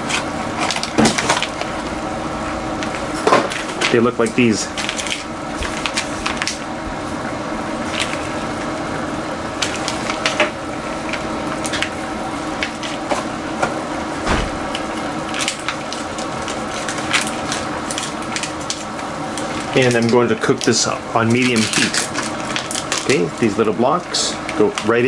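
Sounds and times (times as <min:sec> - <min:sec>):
plastic packaging crackling: 0:00.0 - 0:02.1, 0:02.7 - 0:08.8, 0:09.5 - 0:25.0
steady hum: 0:00.0 - 0:25.0.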